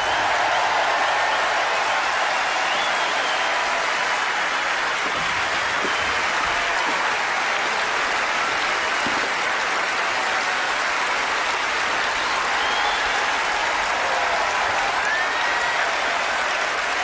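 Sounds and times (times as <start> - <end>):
large audience applauding: 0.0 - 17.0.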